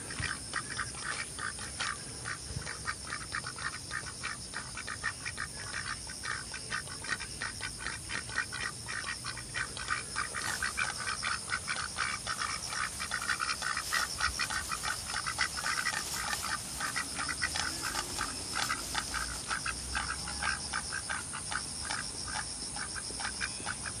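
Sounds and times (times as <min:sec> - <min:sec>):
high-pitched hiss: 0:00.0 - 0:23.9
ducks quacking: 0:00.0 - 0:24.0.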